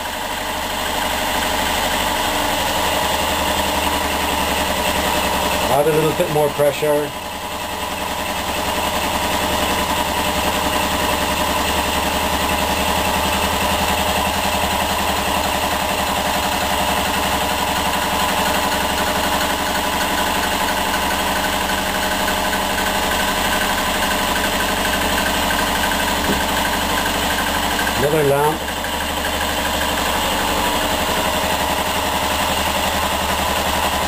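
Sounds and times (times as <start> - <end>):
engine running with rapid beat: 0.0 - 34.0.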